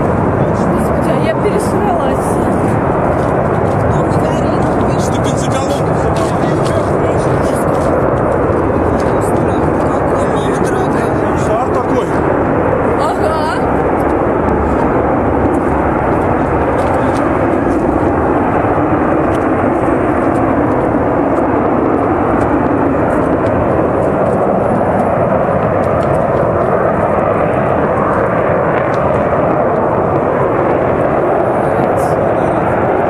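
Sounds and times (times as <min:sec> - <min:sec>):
gas flame roaring: 0:00.0 - 0:33.0.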